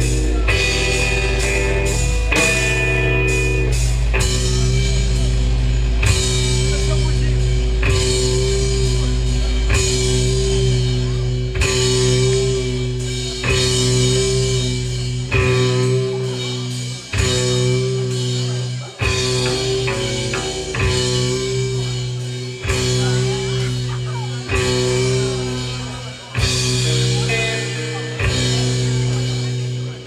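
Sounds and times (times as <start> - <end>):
bass guitar: 0.0 - 30.0
cymbals washing: 0.0 - 30.0
drums: 0.0 - 30.0
loud electric guitar chords: 0.0 - 30.0
punk band playing live: 0.0 - 30.0.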